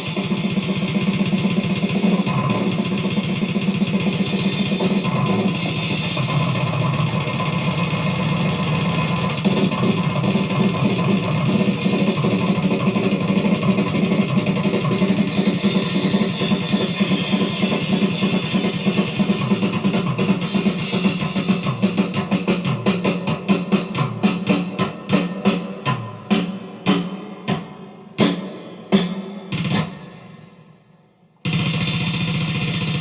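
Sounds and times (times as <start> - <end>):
distorted electric guitars: 0.0 - 26.4
fast dense drumming: 0.0 - 30.2, 31.5 - 33.0.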